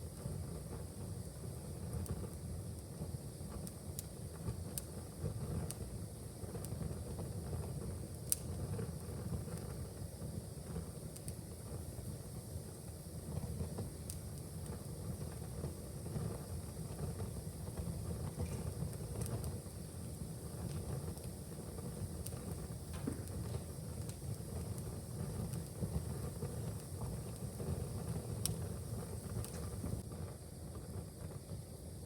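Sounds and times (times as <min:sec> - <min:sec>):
fire crackling and popping: 0:00.0 - 0:32.0
low fire rumble: 0:00.0 - 0:32.0.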